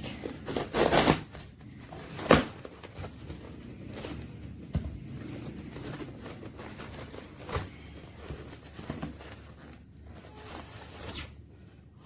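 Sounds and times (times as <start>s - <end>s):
package rustling: 0.1s - 11.4s.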